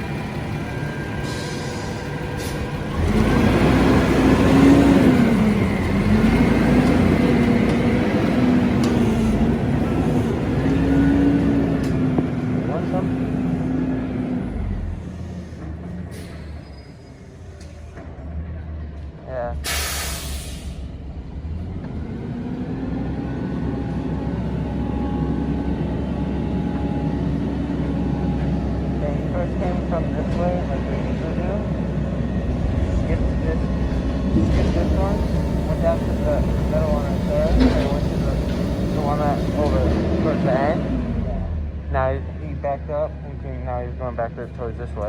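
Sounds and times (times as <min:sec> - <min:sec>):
garbage truck engine revving: 0:02.0 - 0:15.2, 0:19.6 - 0:42.6.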